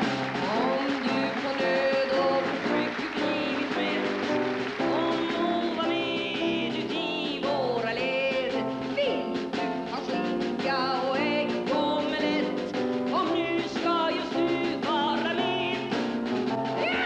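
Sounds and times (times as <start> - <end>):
instrumental accompaniment: 0.0 - 17.0
woman singing into microphone: 0.4 - 16.0.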